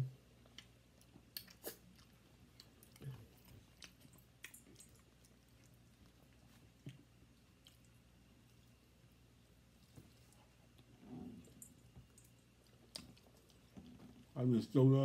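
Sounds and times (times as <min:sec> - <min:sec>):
chewing with clicks and smacks: 0:00.3 - 0:14.4.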